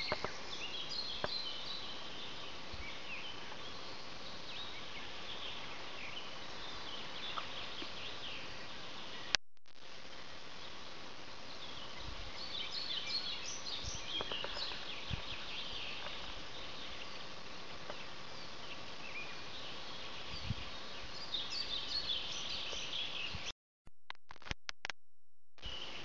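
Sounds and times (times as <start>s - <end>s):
background hiss: 0.0s - 23.5s, 25.6s - 26.0s
small birds chirping: 0.0s - 23.5s, 25.6s - 26.0s.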